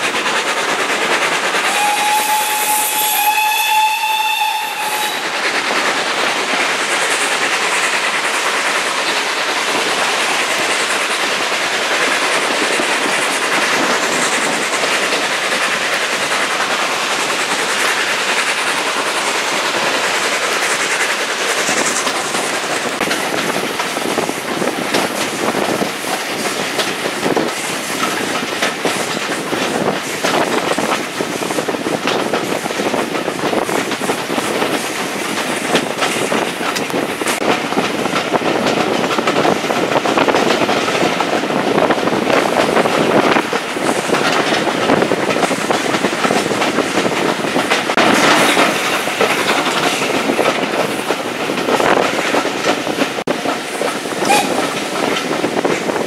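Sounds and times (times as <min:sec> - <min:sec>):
clickety-clack of train wheels: 0:00.0 - 0:56.0
steady rush of train motion: 0:00.0 - 0:56.0.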